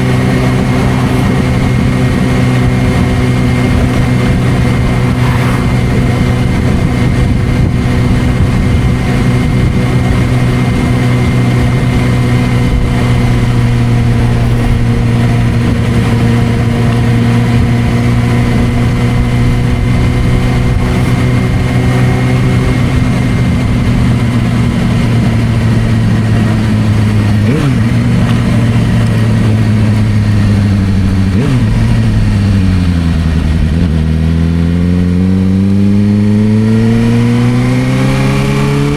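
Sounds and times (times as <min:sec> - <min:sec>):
engine rev blips: 0:00.0 - 0:38.9
motorcycle engine running: 0:00.0 - 0:38.9.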